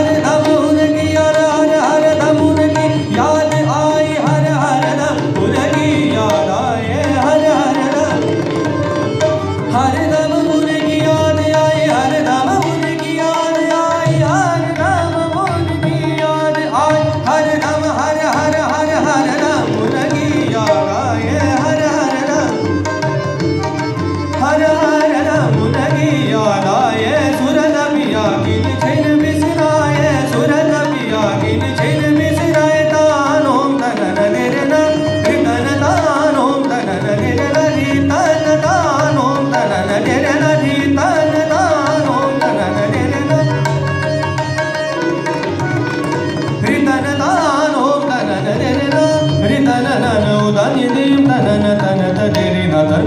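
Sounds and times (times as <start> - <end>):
tabla: 0.0 - 53.0.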